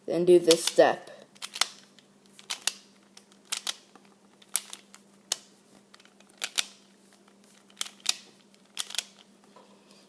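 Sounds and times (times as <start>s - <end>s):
puzzle layers clicking: 0.5s - 6.8s, 7.5s - 9.3s.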